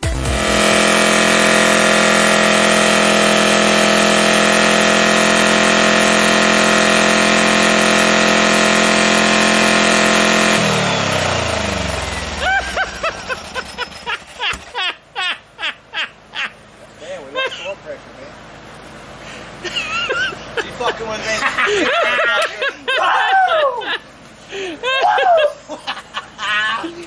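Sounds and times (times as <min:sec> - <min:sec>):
car engine running and winding down: 0:00.0 - 0:25.0.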